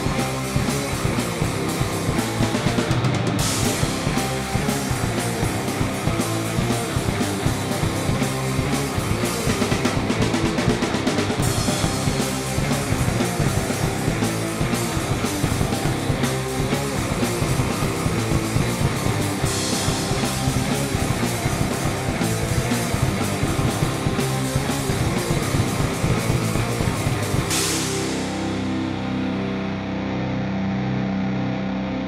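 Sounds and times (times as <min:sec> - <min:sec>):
rock music with drums: 0:00.0 - 0:32.0.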